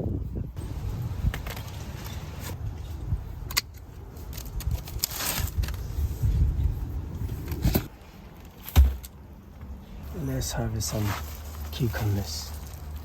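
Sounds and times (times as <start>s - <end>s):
rustling plants being picked: 0.6s - 8.8s, 10.0s - 13.0s.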